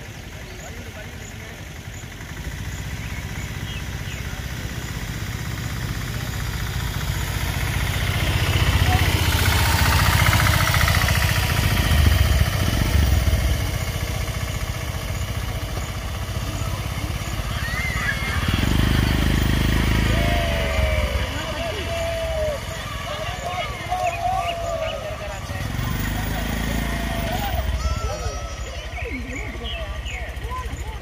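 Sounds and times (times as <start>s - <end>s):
small vehicle engine running: 0.0s - 31.0s.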